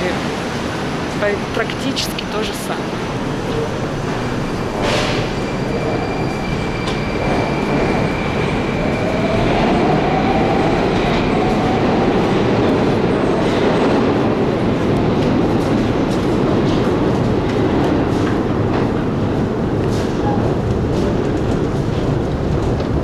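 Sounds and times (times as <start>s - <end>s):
metro train rumble: 0.0s - 23.0s.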